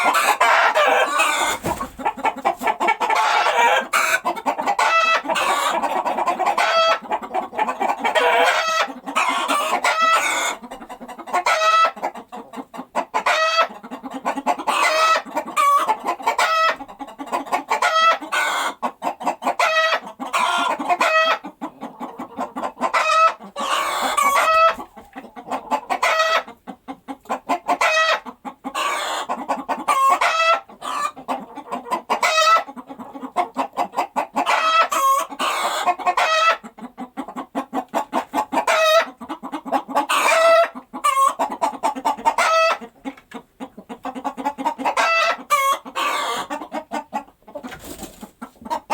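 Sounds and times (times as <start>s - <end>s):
hen cackling: 0.0s - 26.6s, 27.3s - 42.9s, 43.7s - 47.7s.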